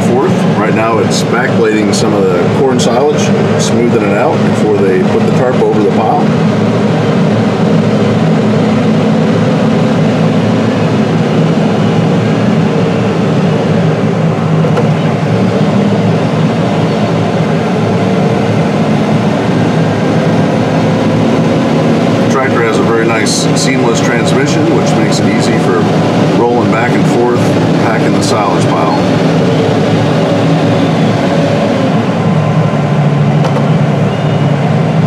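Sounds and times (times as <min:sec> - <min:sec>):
tractor diesel engine droning: 0:00.0 - 0:35.0.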